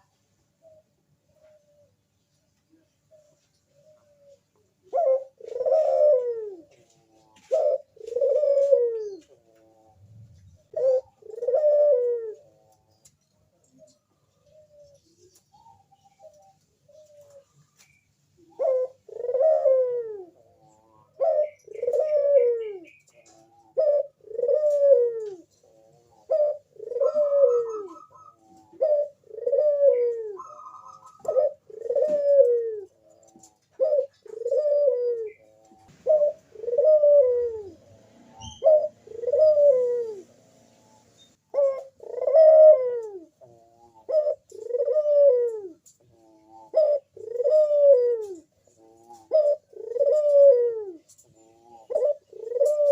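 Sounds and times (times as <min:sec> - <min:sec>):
dove cooing: 0:00.0 - 0:02.1, 0:02.7 - 0:52.9.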